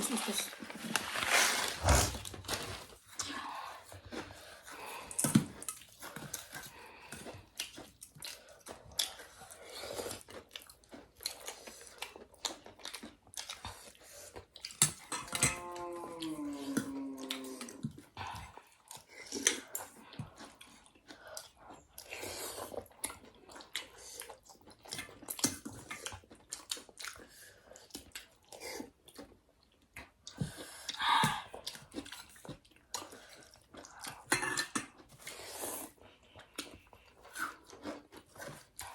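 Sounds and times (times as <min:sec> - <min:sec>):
chewing and biting: 0:00.2 - 0:38.9.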